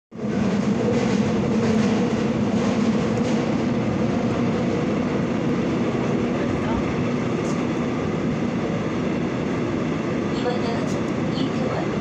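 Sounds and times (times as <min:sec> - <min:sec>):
subway train rumbling: 0:00.1 - 0:12.0.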